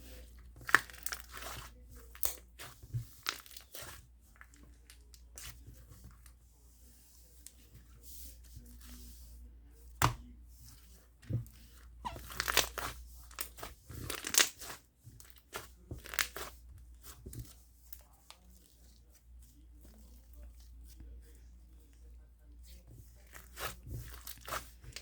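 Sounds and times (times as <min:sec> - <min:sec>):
slime crackling and squelching: 0:00.0 - 0:06.4, 0:09.9 - 0:25.0.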